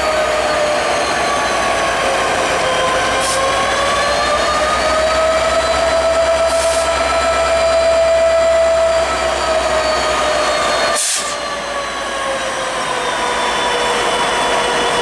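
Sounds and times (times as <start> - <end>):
diesel locomotive engine whine: 0.0 - 15.0.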